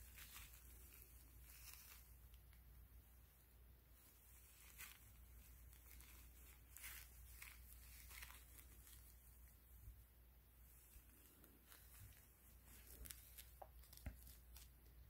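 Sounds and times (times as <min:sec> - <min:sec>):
doll diaper rustling and crinkling: 0:00.0 - 0:15.0
low room hum: 0:00.0 - 0:15.0.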